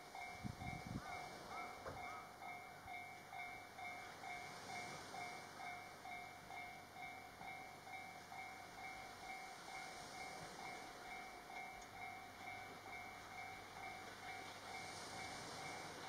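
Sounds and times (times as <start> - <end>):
faint train running: 0.0 - 16.0.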